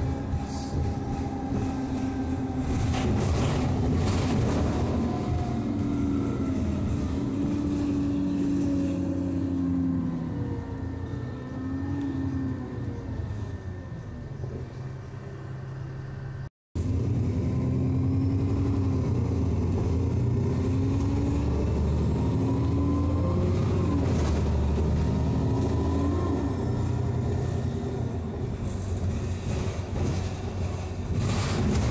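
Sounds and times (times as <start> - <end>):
bus engine drone: 0.0 - 31.9
rising engine whine: 0.0 - 31.9.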